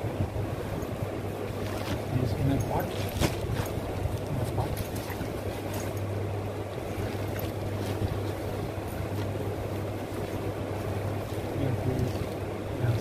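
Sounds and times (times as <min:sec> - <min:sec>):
steady low hum: 0:00.0 - 0:13.0
bag and plastic wrap rustling: 0:01.4 - 0:06.1, 0:06.9 - 0:13.0.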